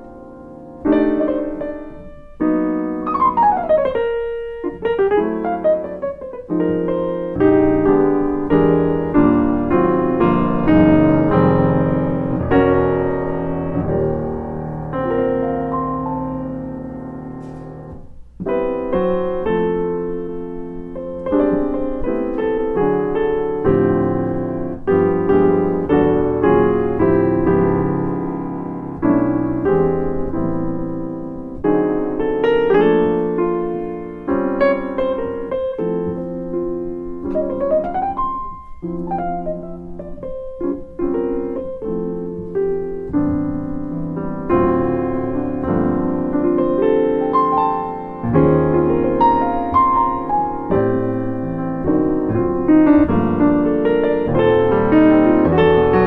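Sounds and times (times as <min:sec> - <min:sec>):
grand piano chords: 0:00.0 - 0:56.0.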